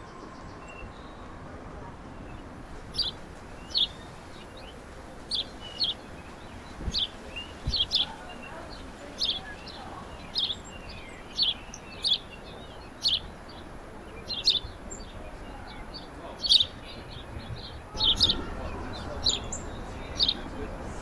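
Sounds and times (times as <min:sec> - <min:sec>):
faint background noise: 0:00.0 - 0:21.0
songbirds chirping: 0:00.0 - 0:21.0.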